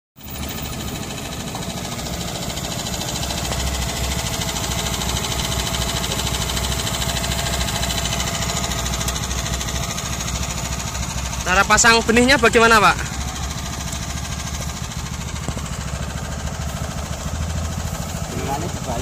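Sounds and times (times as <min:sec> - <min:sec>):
small petrol engine chugging: 0:00.2 - 0:19.0.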